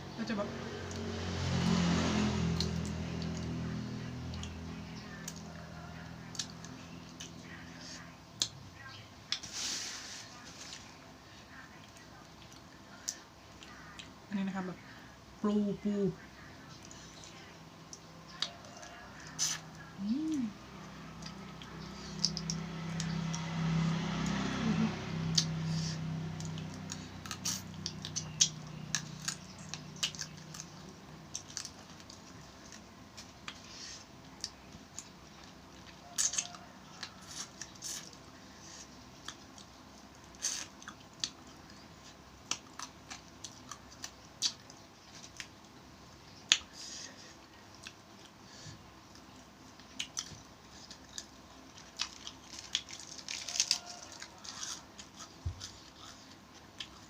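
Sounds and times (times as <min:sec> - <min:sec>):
low steady hum: 0:02.3 - 0:57.0
chewing: 0:02.4 - 0:08.6, 0:10.4 - 0:14.2, 0:16.6 - 0:45.8, 0:46.4 - 0:57.0.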